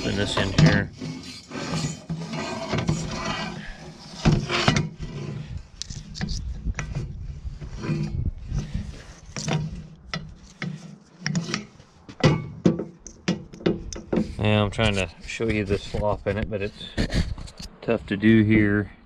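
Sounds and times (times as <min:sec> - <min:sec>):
metal clunks and rubbing: 0:00.0 - 0:17.8.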